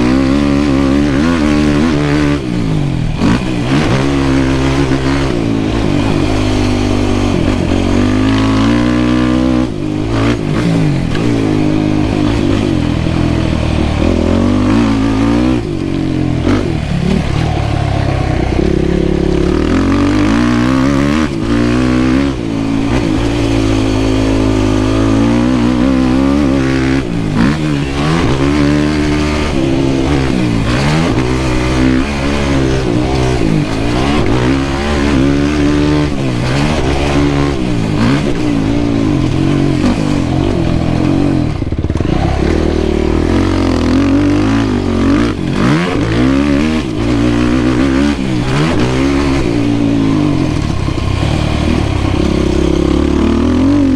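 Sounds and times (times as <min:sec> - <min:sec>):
quad engine revving: 0:00.0 - 0:53.9.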